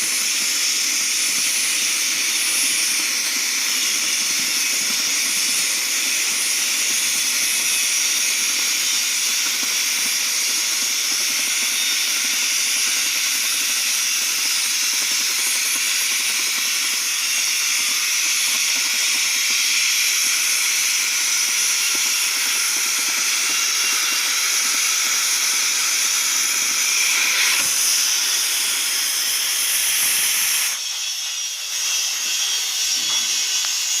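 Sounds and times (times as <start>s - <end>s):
cutting torch hissing: 0.0s - 34.0s.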